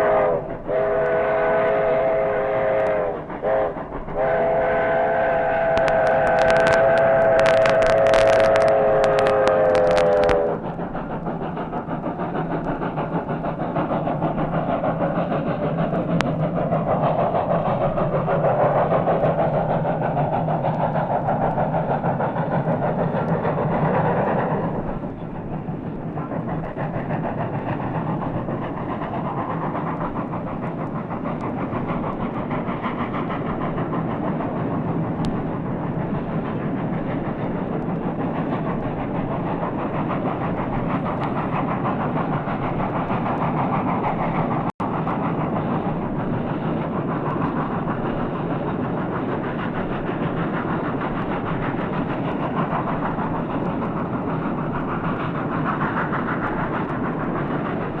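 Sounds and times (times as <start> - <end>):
steam locomotive running past: 0.0 - 58.0.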